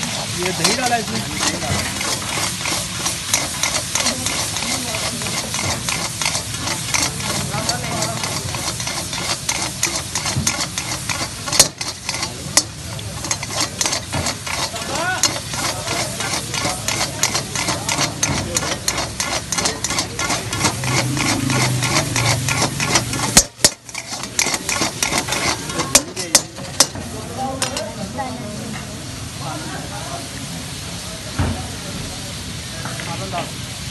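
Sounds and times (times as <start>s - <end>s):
metal spatula scraping a wok: 0.0s - 28.2s
food sizzling in a pan: 0.0s - 33.9s.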